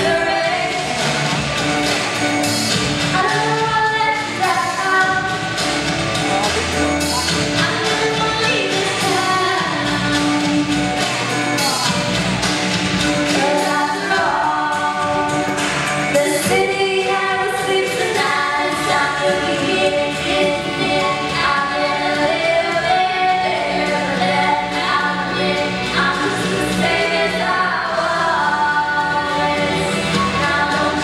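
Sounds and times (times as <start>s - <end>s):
women singing duet: 0.0s - 1.3s, 3.0s - 5.6s, 7.6s - 11.0s, 13.2s - 31.0s
instrumental backing music: 0.0s - 31.0s.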